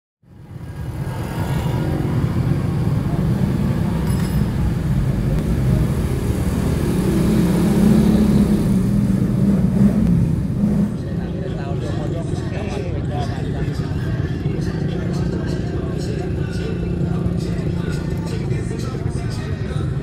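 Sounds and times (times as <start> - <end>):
motorcycle and car engines rumbling: 0.2 - 20.0.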